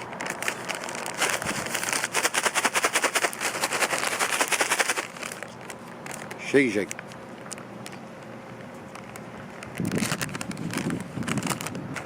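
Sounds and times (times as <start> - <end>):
snacks rattling in shaken bag: 0.0 - 7.0, 9.0 - 12.0.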